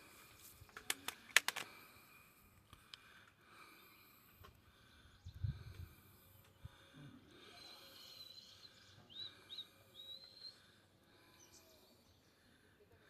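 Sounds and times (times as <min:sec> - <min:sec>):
outdoor ambient noise: 0:00.0 - 0:13.0
faint birdsong: 0:01.8 - 0:13.0.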